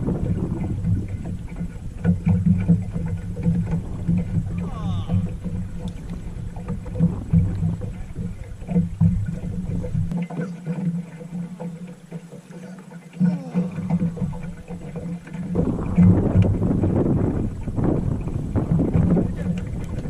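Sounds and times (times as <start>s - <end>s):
wind rumbling on microphone: 0.0s - 10.2s, 13.2s - 20.0s.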